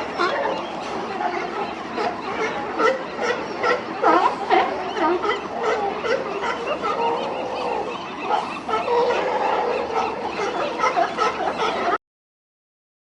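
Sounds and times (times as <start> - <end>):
seals calling: 0.0 - 12.0.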